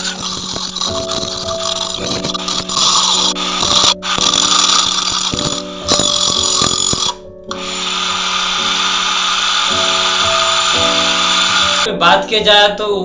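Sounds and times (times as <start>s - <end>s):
angle grinder grinding steel: 0.0s - 11.9s.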